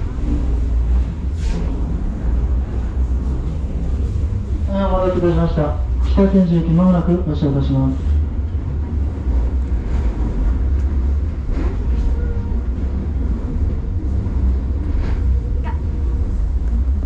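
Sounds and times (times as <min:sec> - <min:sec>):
train carriage low rumble: 0:00.0 - 0:17.0.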